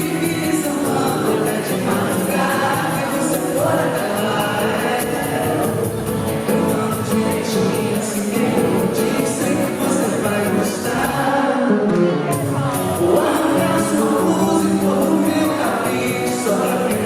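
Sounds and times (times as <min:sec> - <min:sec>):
audience singing along: 0:00.0 - 0:17.0
live pop band music: 0:00.0 - 0:17.0.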